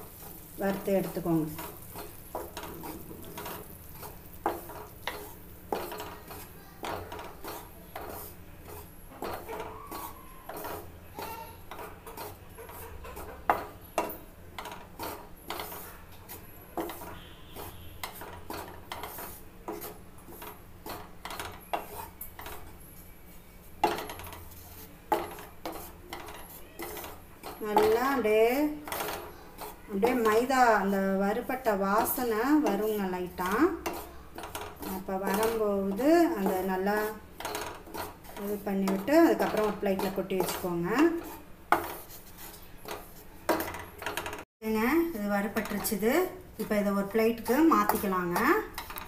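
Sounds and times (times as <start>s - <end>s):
wooden spatula scraping a pan: 0.0s - 44.5s, 45.4s - 49.0s.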